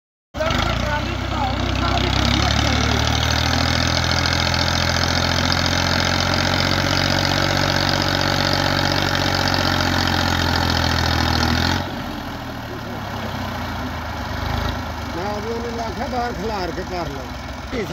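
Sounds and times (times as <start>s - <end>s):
tractor diesel engine running: 0.4s - 17.9s.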